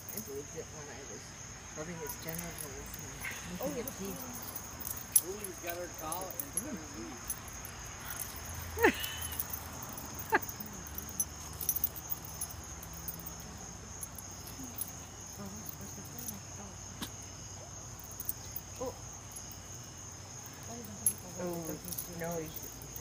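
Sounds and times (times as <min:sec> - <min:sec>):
insect chorus chirring: 0:00.0 - 0:23.0.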